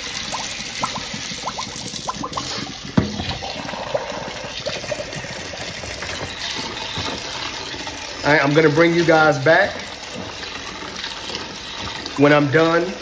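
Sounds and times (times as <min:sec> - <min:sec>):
water running into metal sink: 0:00.0 - 0:13.0.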